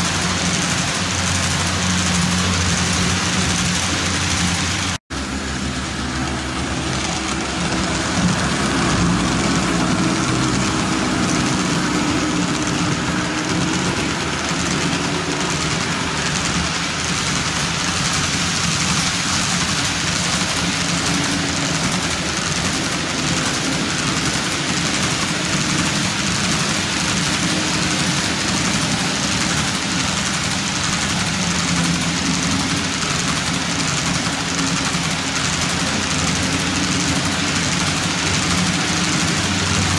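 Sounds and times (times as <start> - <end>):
low motor hum: 0.0 - 39.9
model train wheels rolling: 0.0 - 39.9.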